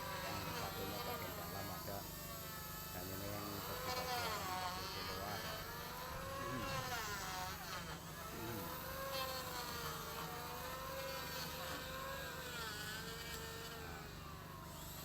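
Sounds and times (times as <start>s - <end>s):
small motor buzzing: 0.0s - 15.0s.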